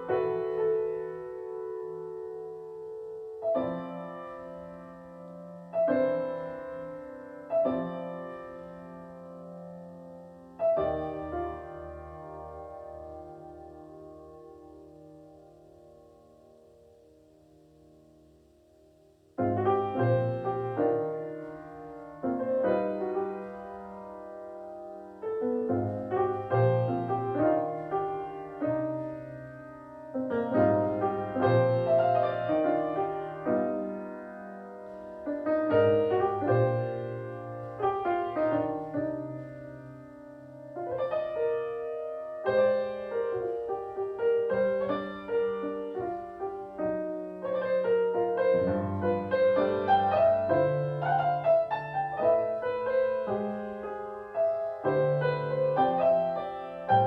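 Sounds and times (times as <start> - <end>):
slow piano piece: 0.0 - 57.0.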